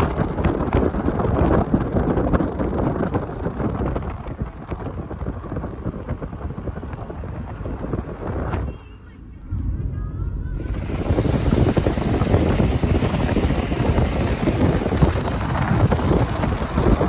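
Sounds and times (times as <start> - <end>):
road and engine noise: 0.0 - 17.0
wind buffeting microphone: 0.0 - 17.0.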